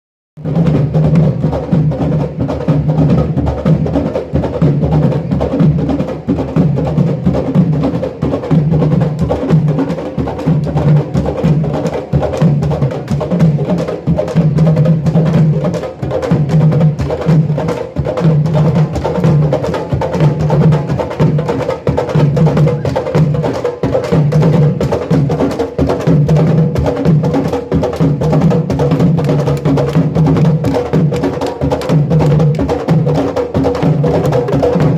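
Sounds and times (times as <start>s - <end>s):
drums with low beat: 0.4s - 34.9s.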